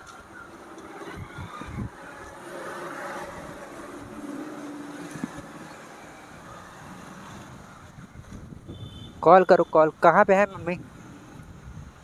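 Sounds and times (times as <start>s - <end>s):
road noise: 0.0s - 12.0s
vehicle engine humming: 0.0s - 12.0s.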